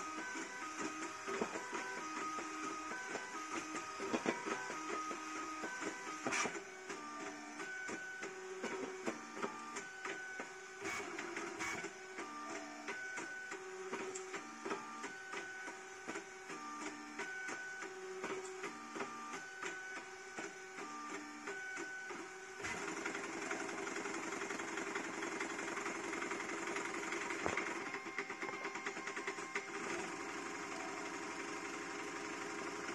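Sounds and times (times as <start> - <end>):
continuous printer buzz: 0.0 - 32.9.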